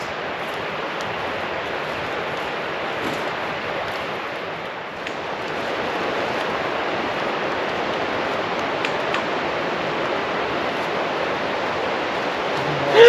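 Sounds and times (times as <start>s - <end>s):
rushing outdoor hiss: 0.0s - 13.0s.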